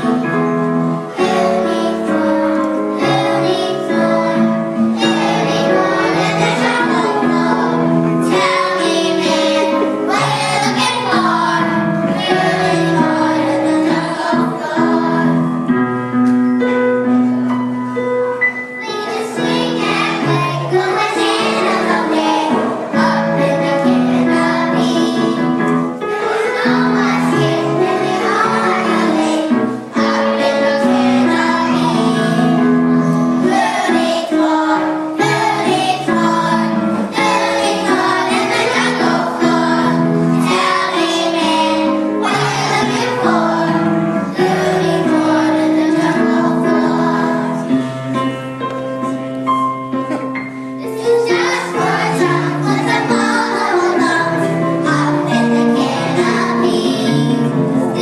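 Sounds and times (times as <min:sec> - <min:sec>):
children singing: 0:00.0 - 0:15.7, 0:18.8 - 0:48.0, 0:50.8 - 0:58.0.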